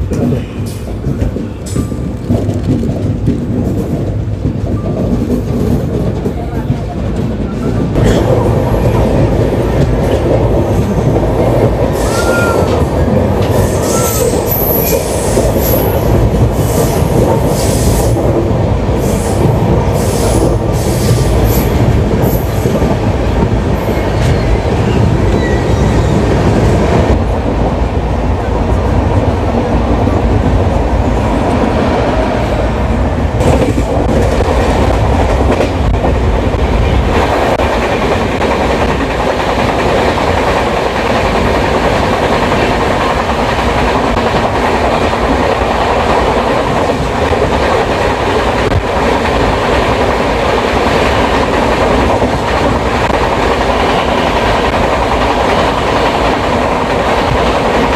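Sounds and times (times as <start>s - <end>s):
train wheels rumbling over rail joints: 0.0s - 57.9s.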